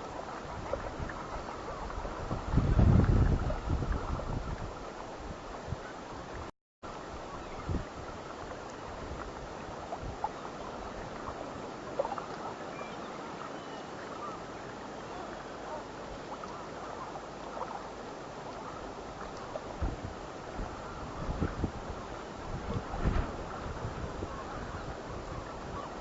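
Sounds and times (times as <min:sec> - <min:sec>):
water at the shore: 0:00.0 - 0:26.0
wind: 0:00.0 - 0:26.0.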